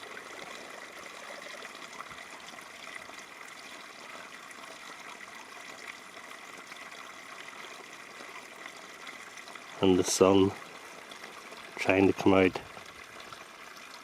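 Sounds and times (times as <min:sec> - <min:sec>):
small stream trickling: 0:00.0 - 0:14.0.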